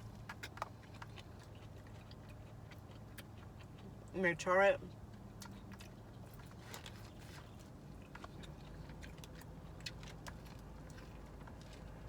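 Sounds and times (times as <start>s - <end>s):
chewing corn on the cob: 0.0s - 12.0s.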